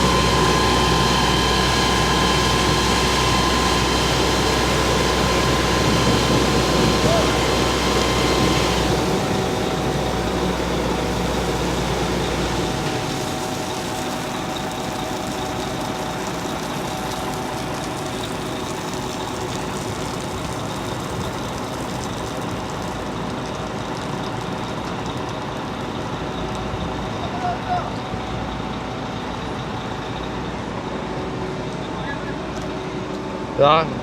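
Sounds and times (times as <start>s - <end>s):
fire truck engine rumbling: 0.0s - 34.0s.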